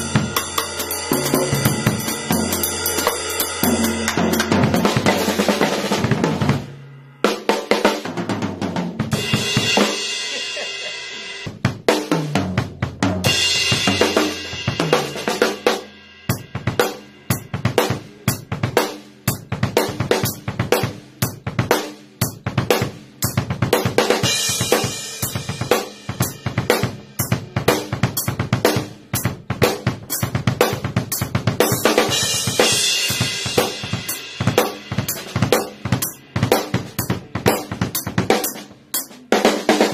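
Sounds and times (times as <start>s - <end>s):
snare and kick drum strokes: 0.0s - 39.9s.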